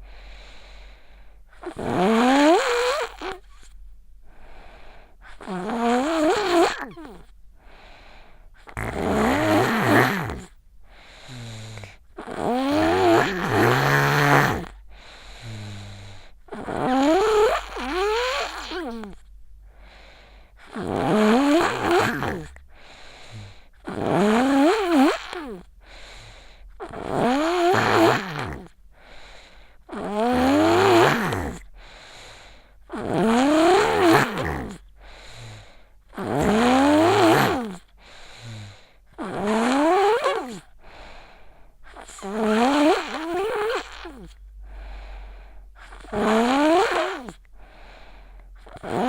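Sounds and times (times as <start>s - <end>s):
quiet breaths: 0.0s - 23.9s, 24.7s - 49.0s
child snoring: 1.5s - 3.8s, 4.5s - 19.2s, 19.8s - 49.0s.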